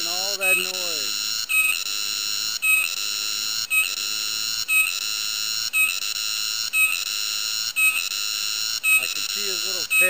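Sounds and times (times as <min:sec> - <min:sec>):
cicada buzzing: 0:00.0 - 0:10.0.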